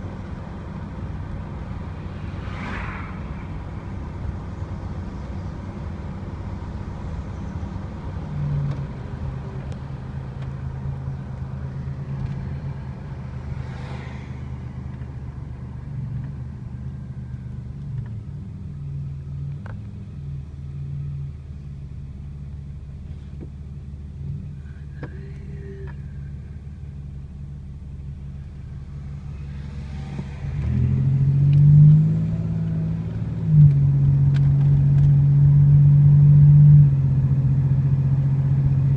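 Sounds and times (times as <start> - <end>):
car engine running while driving: 0.0 - 38.9.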